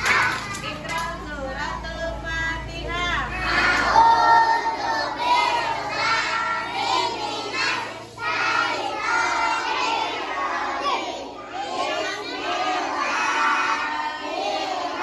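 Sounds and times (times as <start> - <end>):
children singing: 0.0 - 0.8, 2.8 - 15.0.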